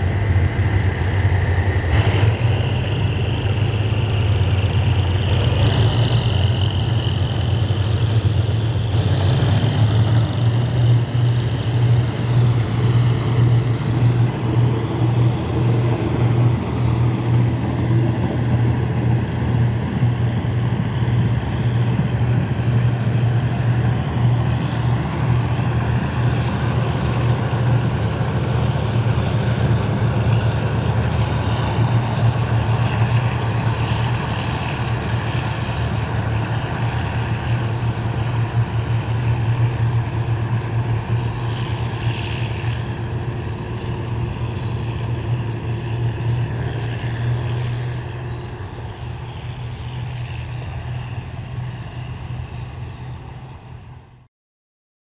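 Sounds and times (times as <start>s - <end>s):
train rolling on track: 0.0s - 54.2s
diesel locomotive engine drone: 0.0s - 54.3s.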